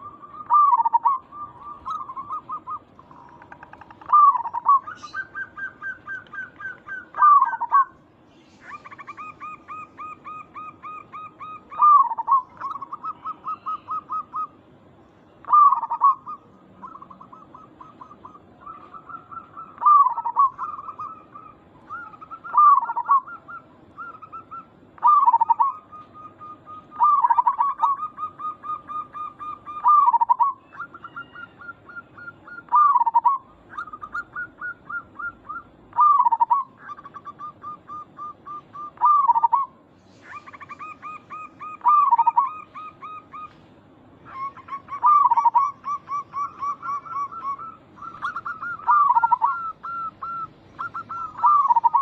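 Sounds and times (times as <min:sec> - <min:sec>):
doves cooing: 0:00.0 - 0:52.0.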